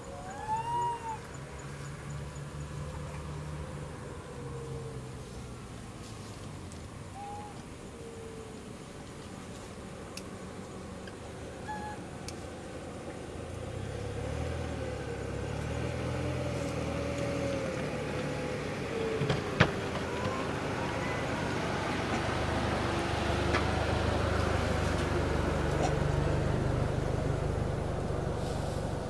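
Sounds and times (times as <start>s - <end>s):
vehicle engine rumbling with whine: 0.0s - 29.0s.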